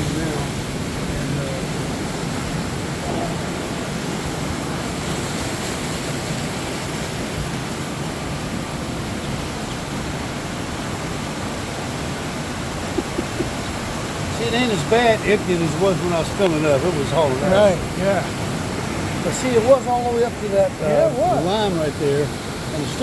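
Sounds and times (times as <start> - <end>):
water pouring through lock gate: 0.0 - 23.0.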